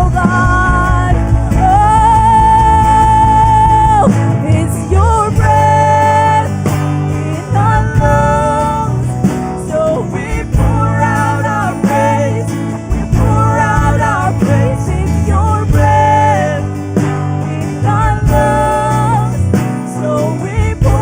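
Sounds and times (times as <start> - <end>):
worship band music: 0.0 - 21.0.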